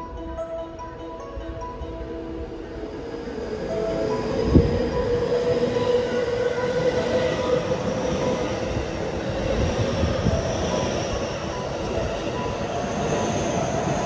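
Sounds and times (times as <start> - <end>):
train wheels rumbling on rail: 1.0 - 14.0.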